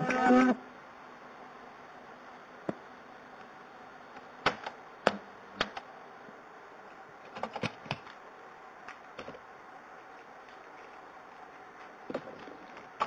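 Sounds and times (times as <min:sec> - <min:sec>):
steady hiss: 0:00.2 - 0:13.0.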